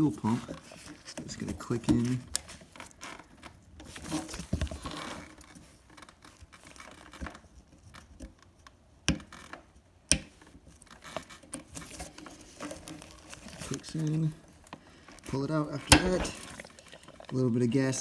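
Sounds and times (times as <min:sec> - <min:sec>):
rustling and scratching of plastic plug: 0:00.0 - 0:17.4.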